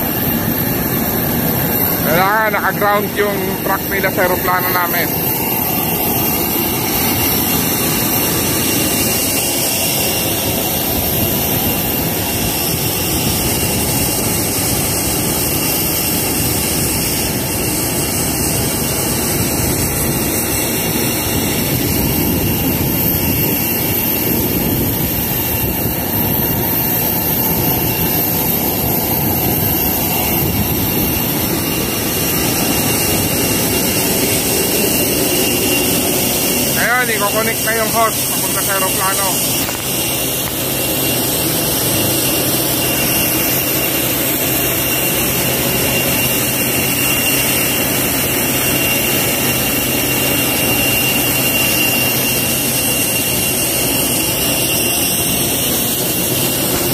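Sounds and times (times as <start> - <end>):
jet turbine whine and rush: 0.0 - 56.9.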